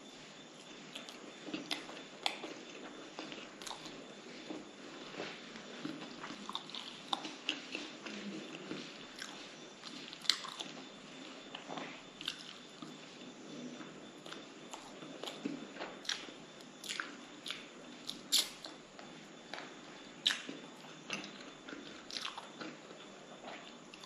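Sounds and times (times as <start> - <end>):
wet chewing sounds: 0.6 - 13.0, 13.8 - 24.0.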